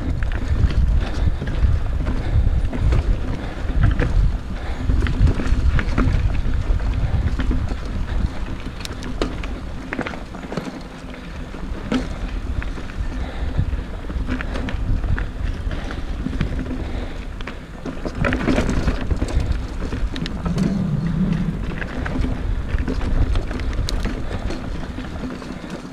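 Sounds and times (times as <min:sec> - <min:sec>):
wind buffeting microphone: 0:00.0 - 0:10.3, 0:11.2 - 0:25.9
bike clicks and rattles: 0:00.0 - 0:25.9.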